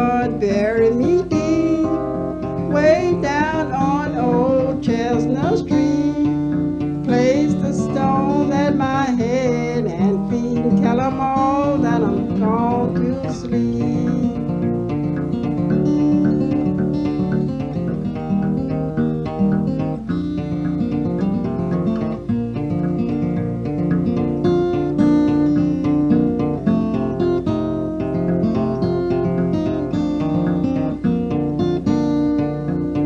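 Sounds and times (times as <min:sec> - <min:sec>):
strummed acoustic guitar: 0:00.0 - 0:33.0
wavering lead guitar melody: 0:00.0 - 0:33.0.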